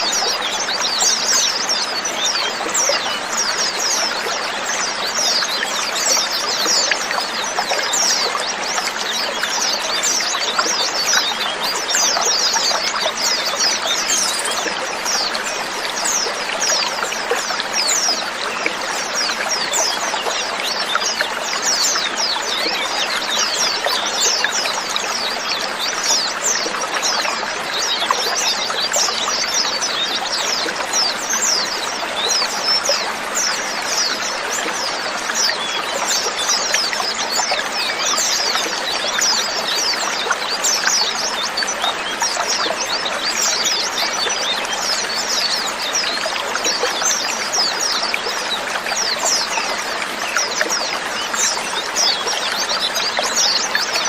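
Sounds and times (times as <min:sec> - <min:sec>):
flock of birds chirping: 0:00.0 - 0:54.0.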